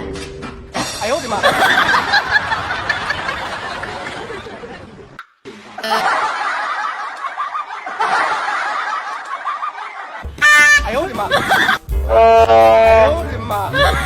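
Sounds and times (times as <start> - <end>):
people laughing and snickering: 1.2 - 10.3, 10.9 - 14.0.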